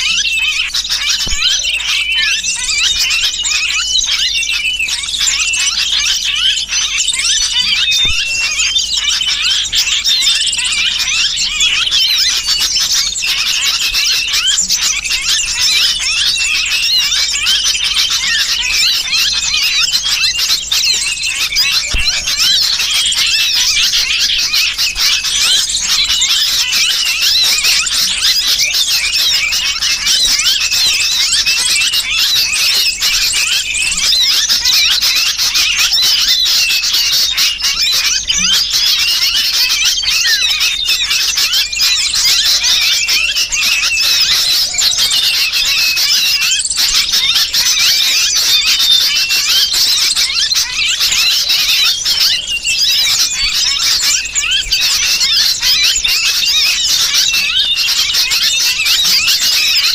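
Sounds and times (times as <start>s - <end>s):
bird distress calls: 0.0s - 59.9s
small birds chirping: 0.0s - 59.9s.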